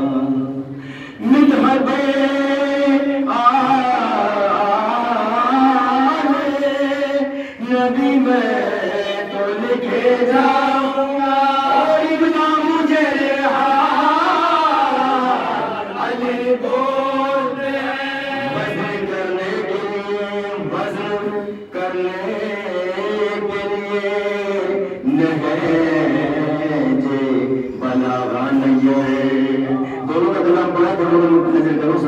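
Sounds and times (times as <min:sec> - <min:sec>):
men chanting: 0:00.0 - 0:32.0.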